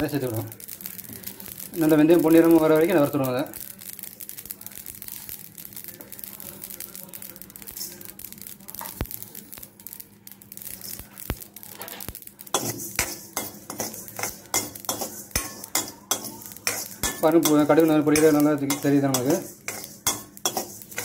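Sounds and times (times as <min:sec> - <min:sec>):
seeds crackling and popping in pan: 0:00.0 - 0:21.0
spatula scraping seeds in pan: 0:00.1 - 0:21.0.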